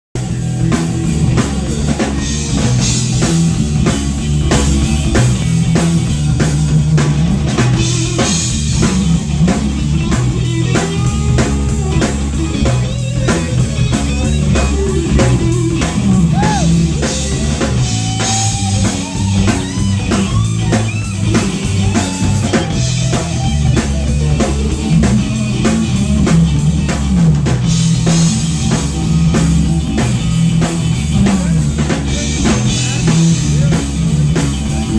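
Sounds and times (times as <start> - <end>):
bass guitar: 0.1 - 34.9
drum kit beat: 0.2 - 34.9
electric guitar lead: 0.2 - 34.9.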